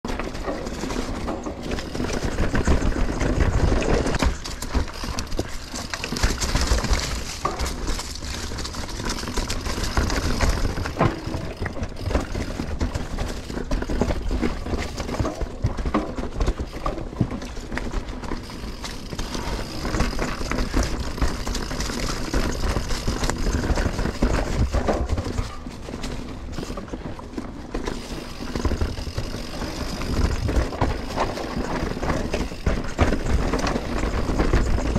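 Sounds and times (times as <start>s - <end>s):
bike rattling over bumps: 0.1s - 34.9s
bike tyres rolling on dirt: 0.1s - 34.9s.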